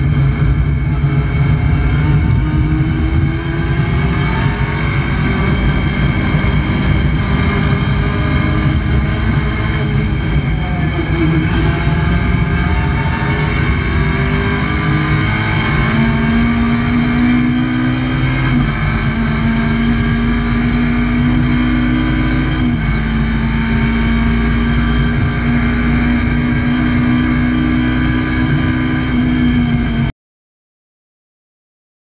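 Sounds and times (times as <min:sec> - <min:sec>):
car engine under load: 0:00.0 - 0:30.1.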